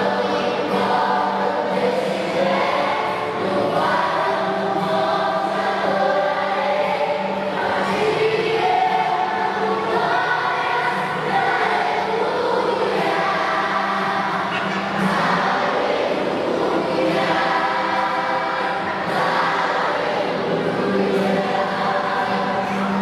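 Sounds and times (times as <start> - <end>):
choir singing: 0.0 - 23.0.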